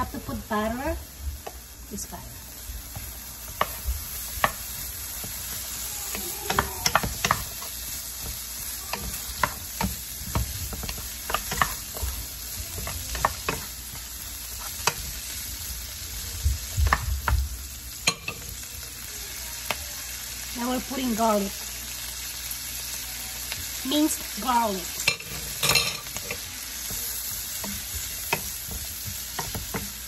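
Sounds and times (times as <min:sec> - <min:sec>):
butter sizzling in skillet: 0:00.0 - 0:30.0.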